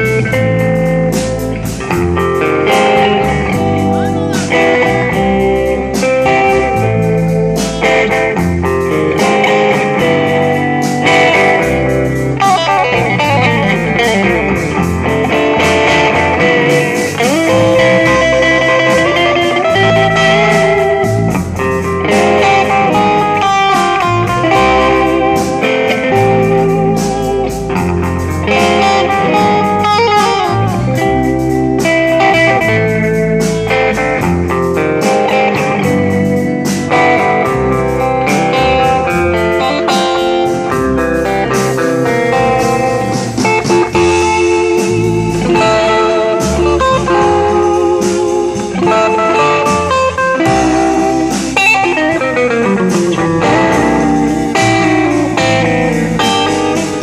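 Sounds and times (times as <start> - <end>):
electric lead guitar: 0.0 - 57.0
live band playing ballad: 0.0 - 57.0.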